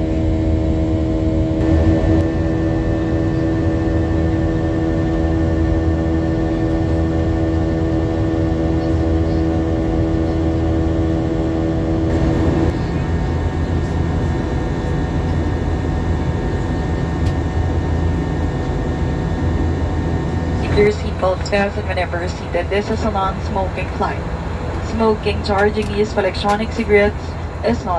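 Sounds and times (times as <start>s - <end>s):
jet engine drone: 0.0s - 27.9s
whining engine tones: 0.0s - 27.9s.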